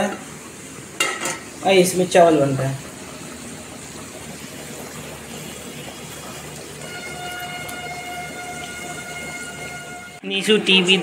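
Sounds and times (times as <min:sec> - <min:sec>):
food sizzling in hot oil: 0:00.0 - 0:10.2.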